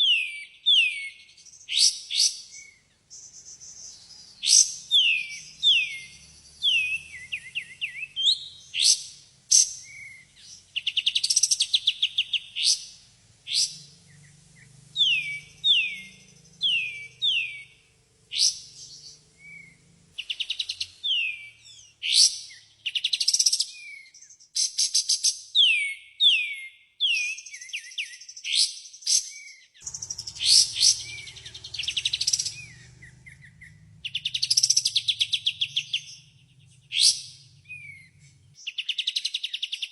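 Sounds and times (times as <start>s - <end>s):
songbird whistles trills and chirps: 0.0s - 39.9s.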